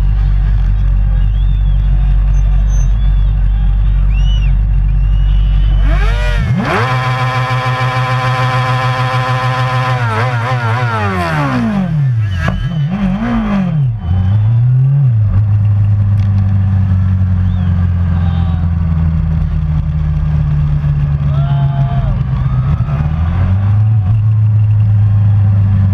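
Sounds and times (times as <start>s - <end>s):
low engine drone: 0.0s - 25.9s
racing motorcycle engine downshifting: 0.0s - 25.9s.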